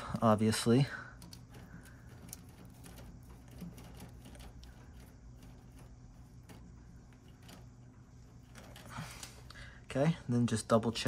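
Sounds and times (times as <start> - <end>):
wires rustling: 0.0 - 11.0.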